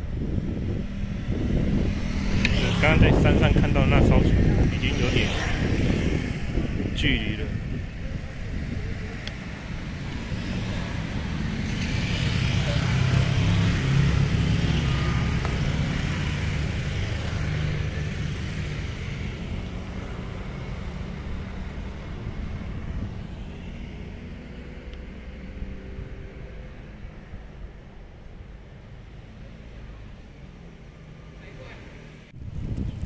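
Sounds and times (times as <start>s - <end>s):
vehicle passing by: 0.0s - 33.0s.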